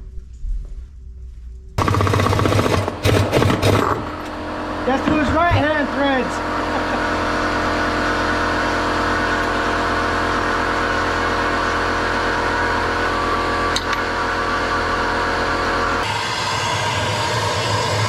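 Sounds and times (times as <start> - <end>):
motor humming: 1.8 - 18.0.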